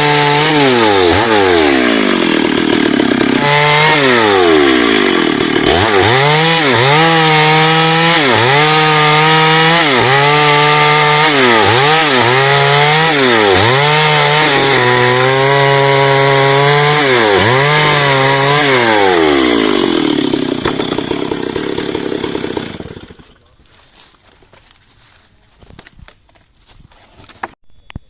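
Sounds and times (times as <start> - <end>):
chainsaw cutting wood: 0.0 - 23.5.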